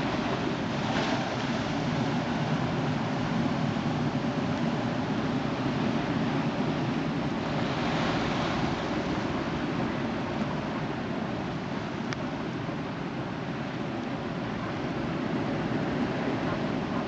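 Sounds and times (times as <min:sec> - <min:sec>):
waves breaking: 0:00.0 - 0:17.0.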